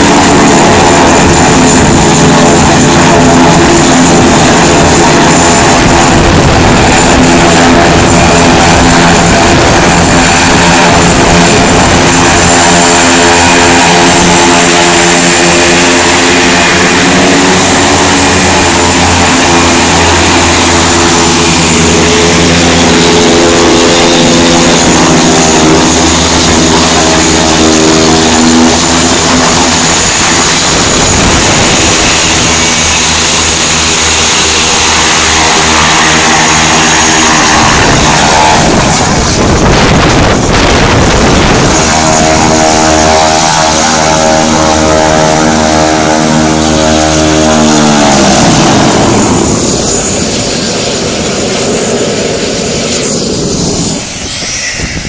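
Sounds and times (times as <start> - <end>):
high turbine whine: 0.0 - 55.0
propeller aircraft drone: 0.0 - 55.0.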